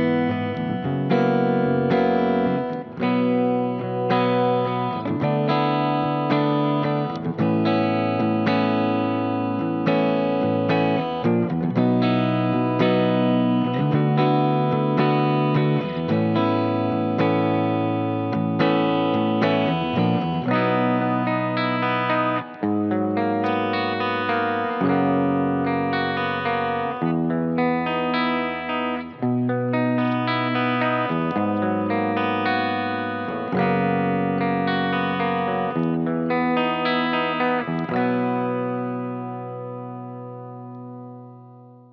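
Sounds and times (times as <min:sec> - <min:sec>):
backing track with bass: 0:00.0 - 0:41.9
distorted electric guitar: 0:00.0 - 0:41.9.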